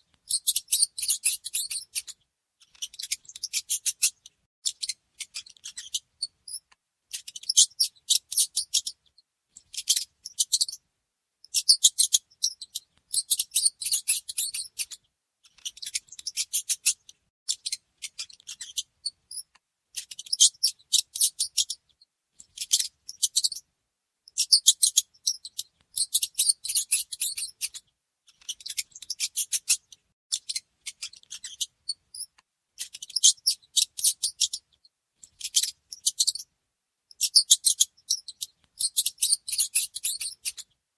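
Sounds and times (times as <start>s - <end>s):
mice squeaking: 0.2s - 10.8s, 11.4s - 23.6s, 24.3s - 27.8s, 28.4s - 36.5s, 37.1s - 40.7s.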